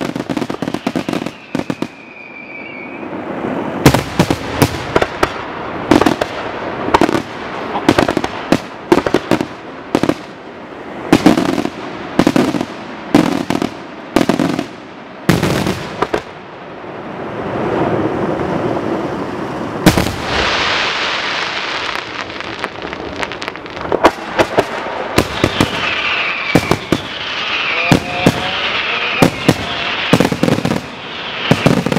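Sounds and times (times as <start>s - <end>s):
fireworks bursting with sharp bangs: 0.0s - 16.6s, 19.8s - 31.9s.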